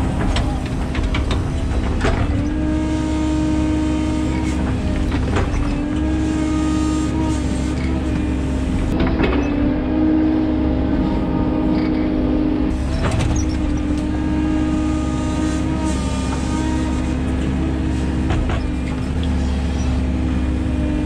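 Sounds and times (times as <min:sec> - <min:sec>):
excavator engine running: 0:00.0 - 0:21.0
hydraulic whine: 0:00.0 - 0:21.0.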